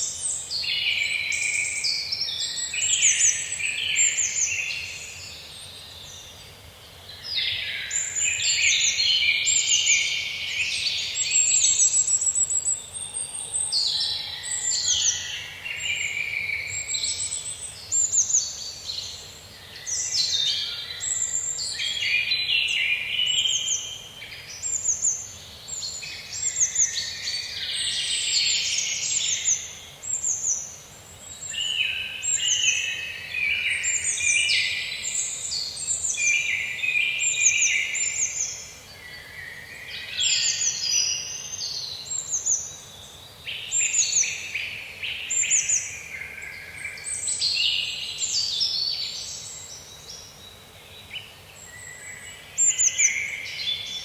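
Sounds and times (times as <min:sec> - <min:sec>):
faint forest background hiss: 0:00.0 - 0:54.0
songbirds calling and singing: 0:00.0 - 0:54.0.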